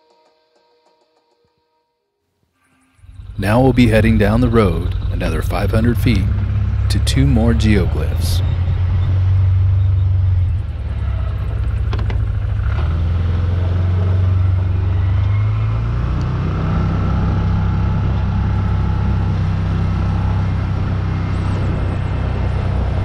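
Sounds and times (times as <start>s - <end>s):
vehicle engine droning: 2.7s - 23.0s.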